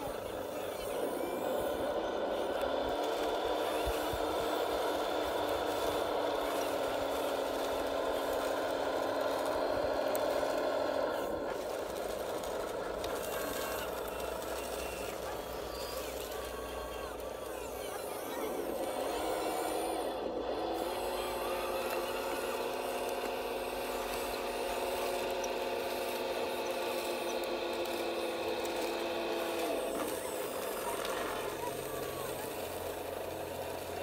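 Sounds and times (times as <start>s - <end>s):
model bulldozer mechanical whine: 0.0s - 34.0s.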